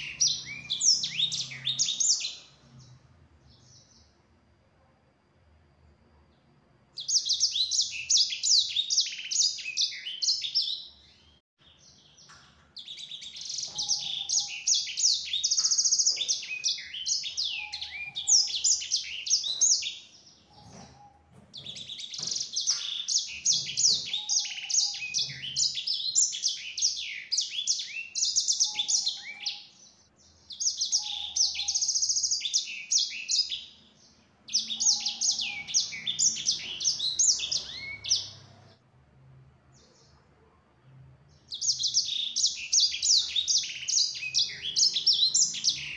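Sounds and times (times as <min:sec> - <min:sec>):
canary warbling song: 0:00.0 - 0:04.1, 0:07.0 - 0:38.8, 0:41.3 - 0:45.9.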